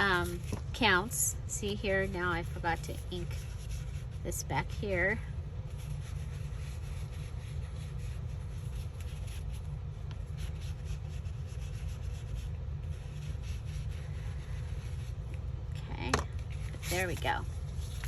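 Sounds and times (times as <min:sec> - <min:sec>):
steady low hum: 0:00.0 - 0:18.0
ink pad scuffing paper: 0:01.9 - 0:15.2, 0:16.0 - 0:18.0.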